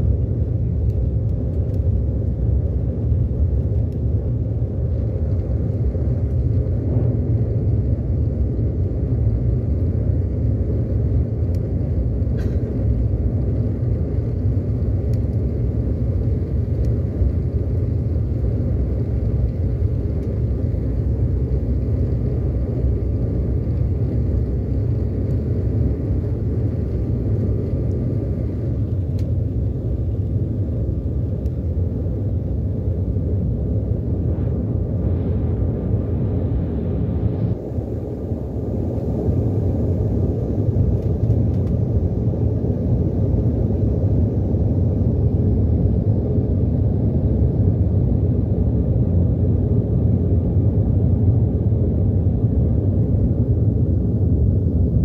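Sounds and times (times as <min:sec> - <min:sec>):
faint steady whine: 0:00.0 - 0:55.0
jet engine low rumble: 0:00.0 - 0:55.0.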